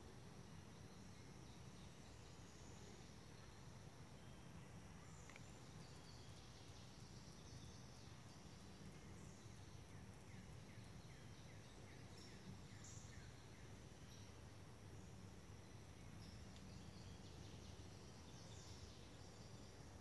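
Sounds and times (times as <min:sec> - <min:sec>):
faint insect buzzing: 0:00.0 - 0:20.0
small bird chirping: 0:00.7 - 0:20.0.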